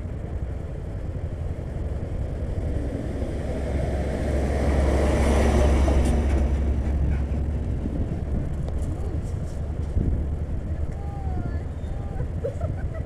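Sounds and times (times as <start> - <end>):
low engine rumble: 0.0 - 13.0
truck passing: 0.0 - 13.0
wind noise: 0.0 - 13.0.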